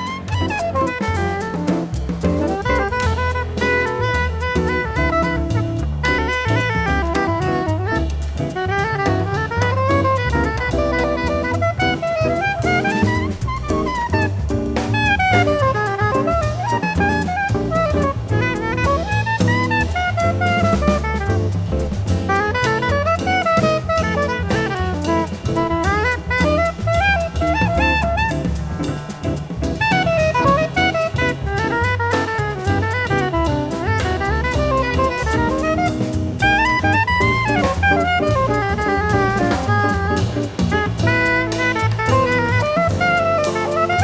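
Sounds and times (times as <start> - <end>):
bass: 0.0 - 44.0
drum kit: 0.0 - 44.0.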